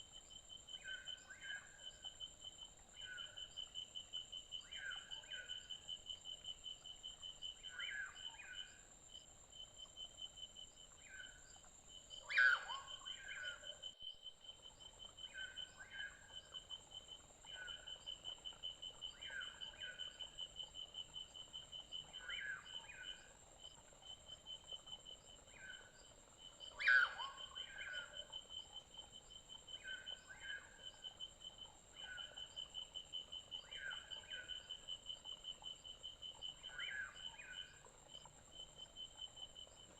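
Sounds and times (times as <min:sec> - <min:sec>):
insects trilling: 0:00.2 - 0:39.9.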